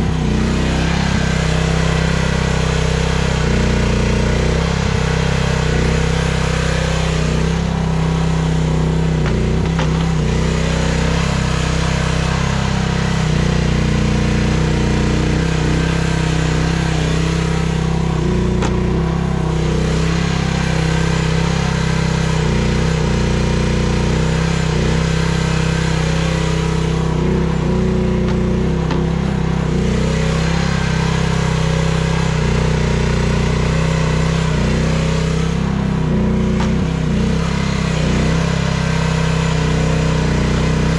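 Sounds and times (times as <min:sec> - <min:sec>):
excavator engine under load: 0:00.0 - 0:40.9.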